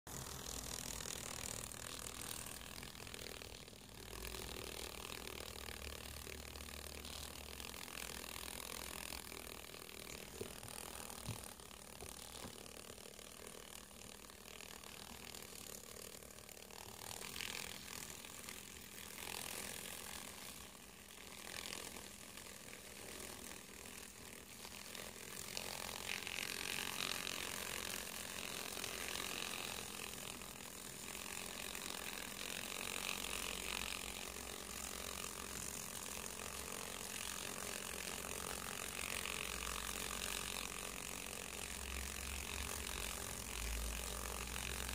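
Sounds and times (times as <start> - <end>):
moth wings fluttering on paper: 0.1 - 44.9.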